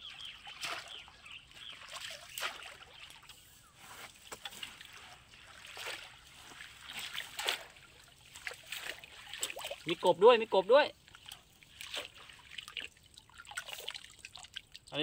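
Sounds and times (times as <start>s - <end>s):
pole splashing in muddy water: 0.1s - 3.5s, 4.1s - 10.0s, 11.0s - 14.7s.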